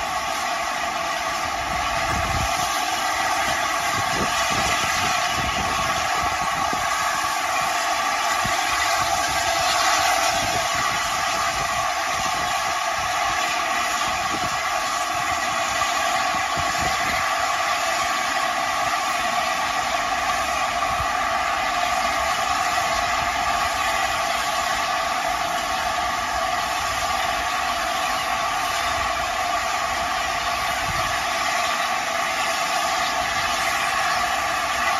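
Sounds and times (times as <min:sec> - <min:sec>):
steam hissing: 0:00.0 - 0:34.9.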